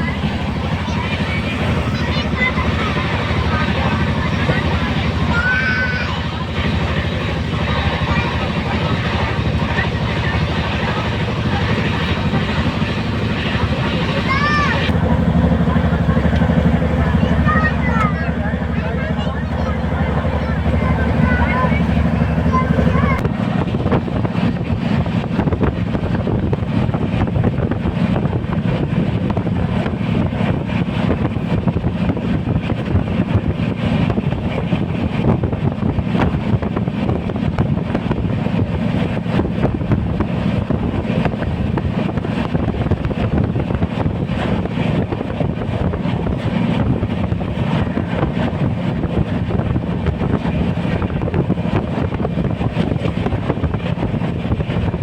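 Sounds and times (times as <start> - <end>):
moving train rumble: 0.0 - 55.0
wind buffeting microphone: 0.0 - 55.0.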